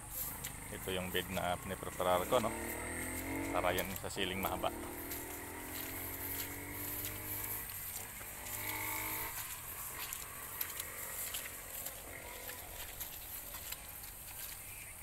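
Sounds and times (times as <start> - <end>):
farm animal calling: 0.0 - 15.0
footsteps in wet grass and mud: 0.0 - 15.0.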